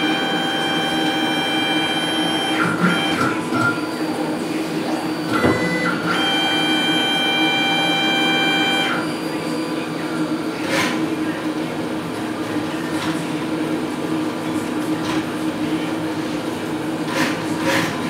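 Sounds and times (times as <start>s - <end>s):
printer motor whine: 0.0s - 18.0s.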